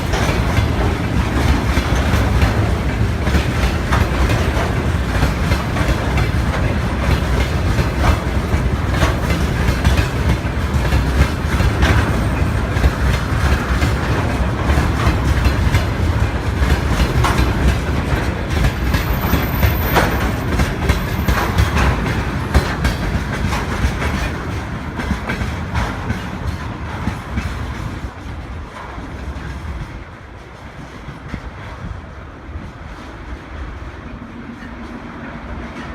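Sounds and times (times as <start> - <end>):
freight train rumbling past: 0.0 - 35.9
wheels clacking on rails: 0.0 - 35.9.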